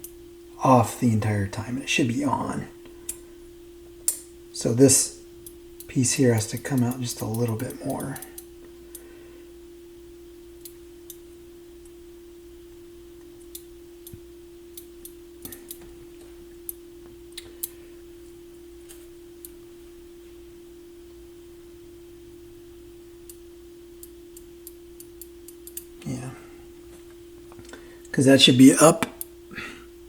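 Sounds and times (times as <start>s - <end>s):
mid-pitched hum tone: 0.0s - 30.0s.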